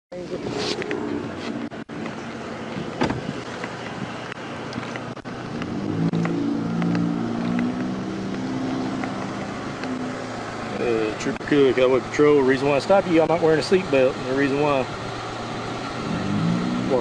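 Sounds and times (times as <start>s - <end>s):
road noise: 0.1s - 17.0s
vehicle engine humming: 0.1s - 17.0s.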